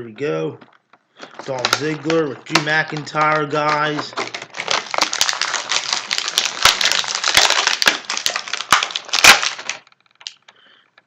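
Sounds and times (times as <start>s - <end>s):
plastic packaging crinkling: 1.1s - 10.5s.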